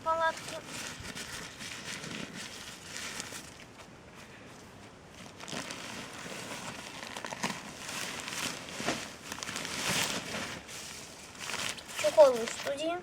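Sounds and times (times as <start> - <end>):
tent fabric rustling: 0.0 - 13.0.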